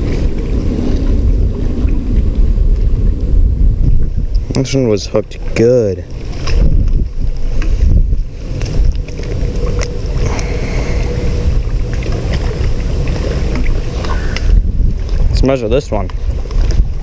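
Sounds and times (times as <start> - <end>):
faint steady hum: 0.0 - 15.0
wind buffeting microphone: 0.0 - 17.0.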